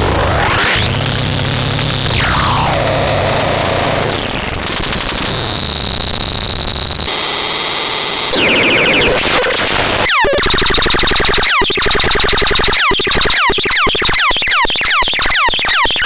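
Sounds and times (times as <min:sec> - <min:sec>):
electronic siren: 0:00.5 - 0:07.2, 0:08.3 - 0:16.0.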